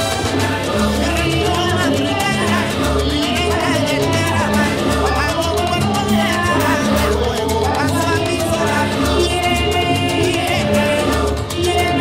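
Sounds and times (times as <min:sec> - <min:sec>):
salsa music: 0:00.0 - 0:12.0.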